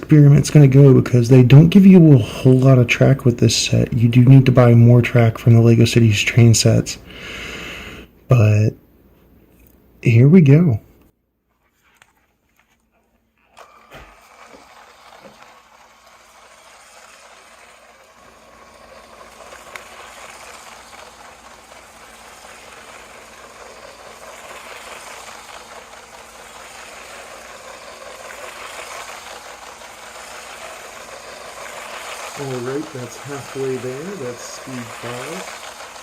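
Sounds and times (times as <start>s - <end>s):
toy train running on plastic track: 0.0s - 7.0s, 13.4s - 36.0s.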